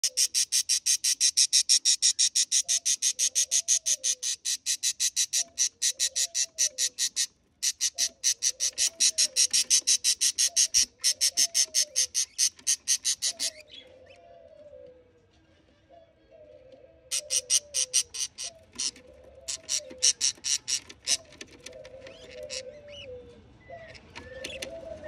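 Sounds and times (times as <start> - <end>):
budgie chicks chirping: 0.0 - 14.9, 16.3 - 25.0.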